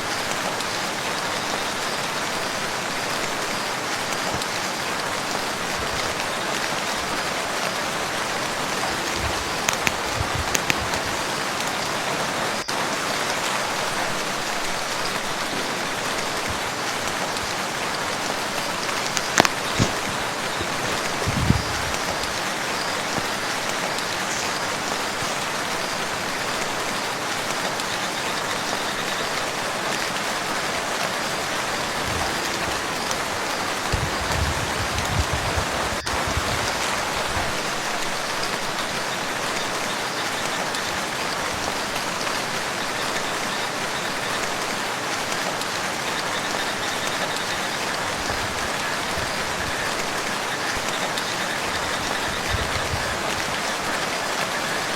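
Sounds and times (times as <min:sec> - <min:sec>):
rain falling on a lake: 0:00.0 - 0:54.9.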